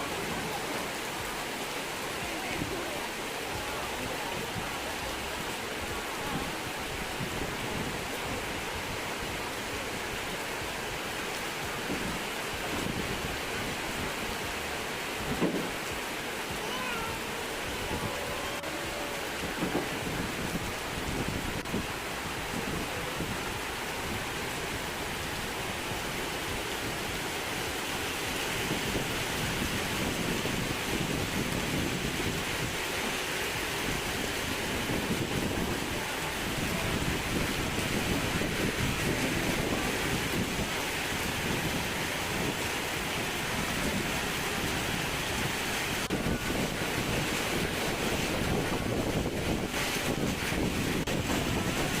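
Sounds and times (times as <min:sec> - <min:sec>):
heavy rain falling: 0:00.0 - 0:52.0
wind blowing across microphone: 0:00.0 - 0:52.0.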